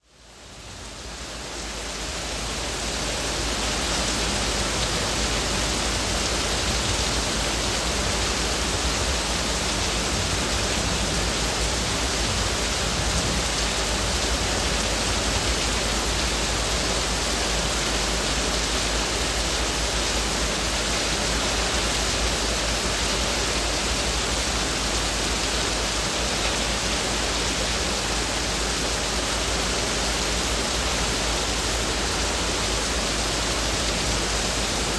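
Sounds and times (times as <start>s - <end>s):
heavy rain on leaves: 0.0s - 34.9s.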